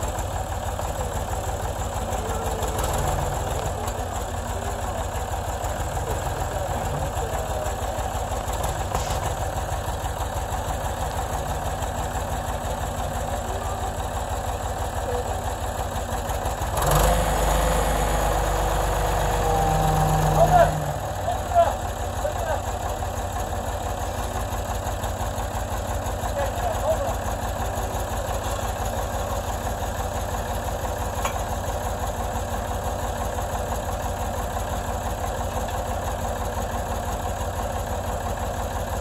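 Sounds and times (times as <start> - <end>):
backhoe engine idling: 0.0 - 39.0.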